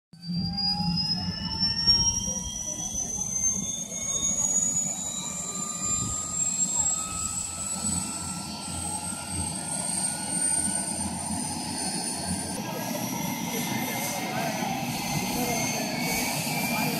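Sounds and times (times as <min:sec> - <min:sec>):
helicopter turbine whine rising: 0:00.2 - 0:16.9
low rumble of main rotor: 0:00.2 - 0:16.9.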